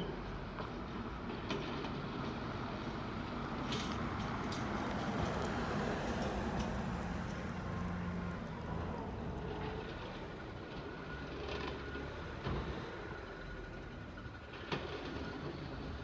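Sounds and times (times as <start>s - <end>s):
garbage truck engine and hydraulics: 0.0s - 16.0s.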